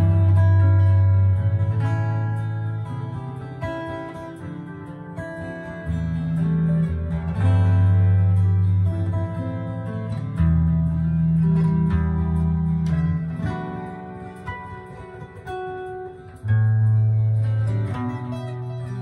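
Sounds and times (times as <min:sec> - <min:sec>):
acoustic guitar: 0:00.0 - 0:19.0.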